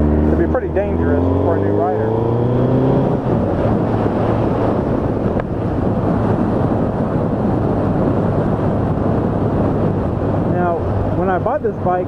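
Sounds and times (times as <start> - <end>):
motorcycle engine droning: 0.0 - 12.0
wind rushing over microphone: 0.0 - 12.0.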